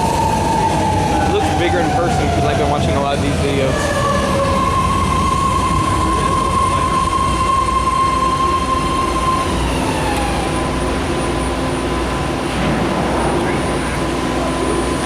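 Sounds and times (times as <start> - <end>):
high train whine: 0.0 - 15.0
subway train rumble: 0.0 - 15.0.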